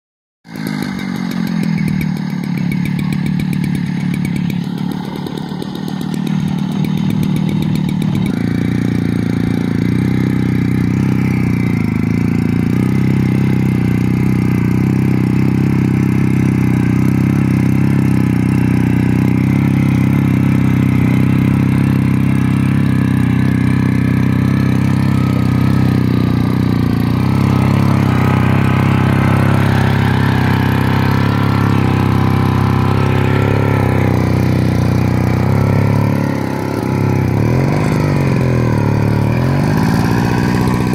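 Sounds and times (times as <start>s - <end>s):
small tiller engine running: 0.4s - 40.9s
tines churning dry soil: 0.5s - 40.9s.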